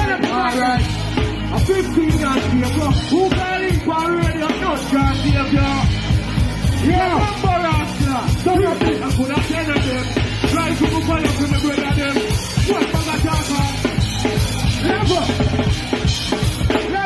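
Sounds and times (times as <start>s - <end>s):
drum kit beat: 0.0s - 17.0s
live band music: 0.0s - 17.0s.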